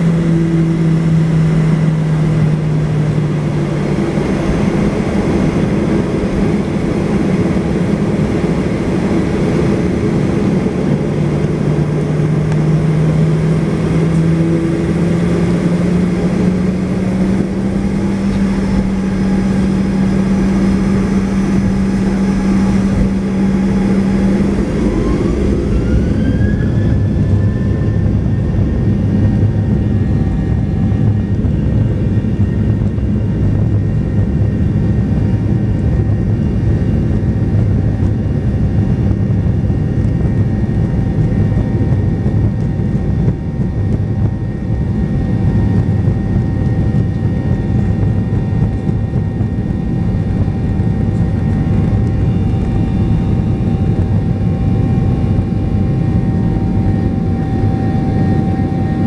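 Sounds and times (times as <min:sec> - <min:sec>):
jet engines humming: 0:00.0 - 0:59.0
jet engines spooling up: 0:00.0 - 0:59.0.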